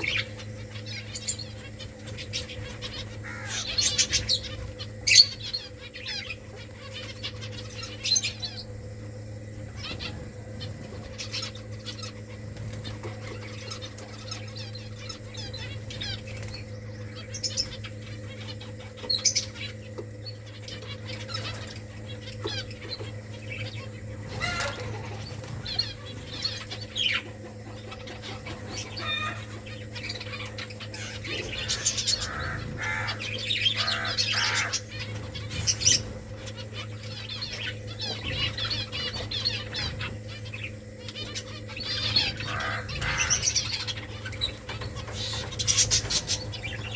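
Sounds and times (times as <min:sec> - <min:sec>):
finches chirping: 0:00.0 - 0:46.9
steady low hum: 0:00.0 - 0:46.9
wings fluttering: 0:00.0 - 0:46.9.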